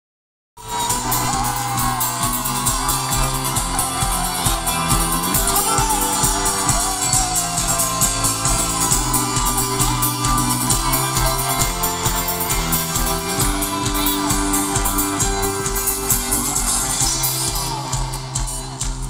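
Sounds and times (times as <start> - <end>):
drums: 0.6 - 19.0
folk-rock band playing live: 0.6 - 19.0
guitars: 0.6 - 19.0
upright bass: 0.6 - 19.0.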